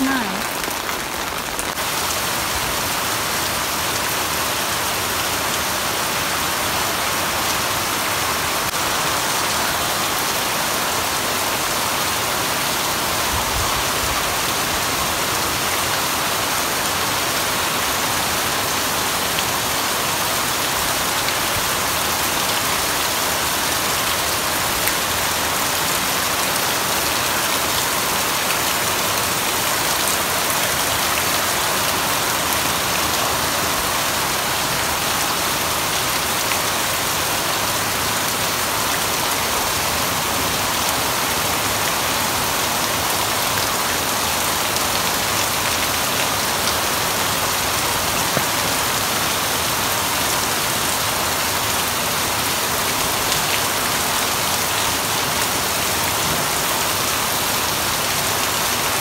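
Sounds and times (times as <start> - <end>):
heavy rain on leaves and concrete: 0.0 - 59.0.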